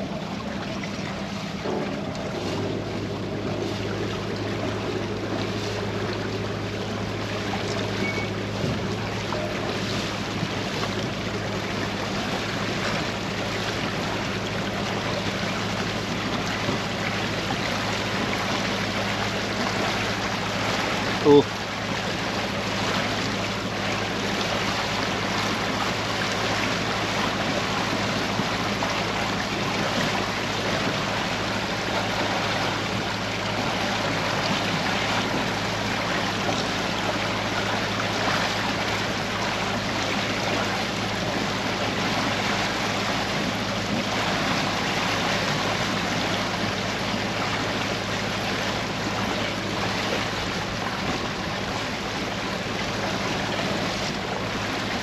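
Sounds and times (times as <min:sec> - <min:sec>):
boat engine humming: 0:00.0 - 0:55.0
water rushing along hull: 0:00.0 - 0:55.0.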